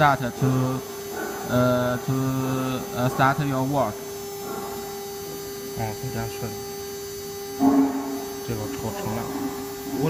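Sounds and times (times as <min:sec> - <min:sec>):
router machine humming: 0:00.0 - 0:10.0.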